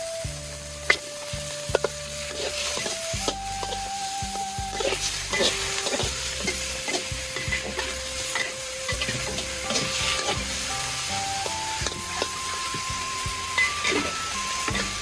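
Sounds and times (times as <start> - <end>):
food sizzling in a pan: 0.0 - 15.0
utensil scraping a pan: 0.8 - 15.0.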